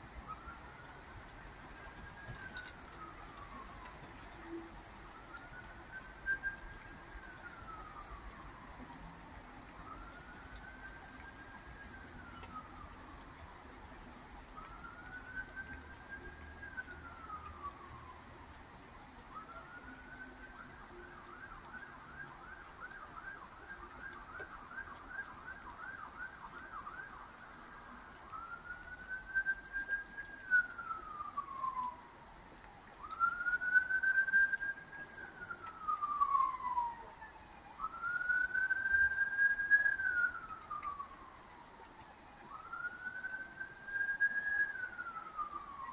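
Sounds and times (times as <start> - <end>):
emergency vehicle siren: 0.0 - 45.9.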